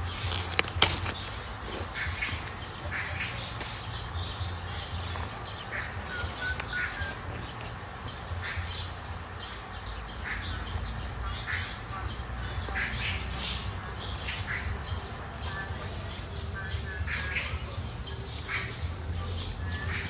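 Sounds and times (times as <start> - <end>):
birds harsh calls: 0.0 - 20.0.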